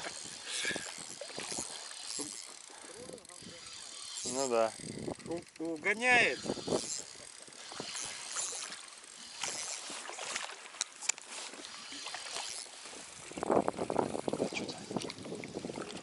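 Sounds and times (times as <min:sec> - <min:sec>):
soft water sounds: 0:00.0 - 0:16.0.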